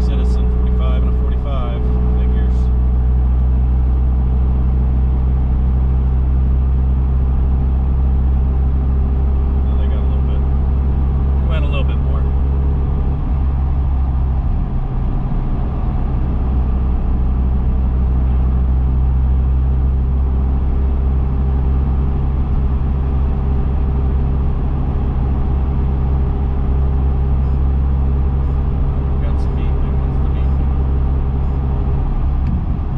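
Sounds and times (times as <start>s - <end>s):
car engine low drone: 0.0s - 32.9s.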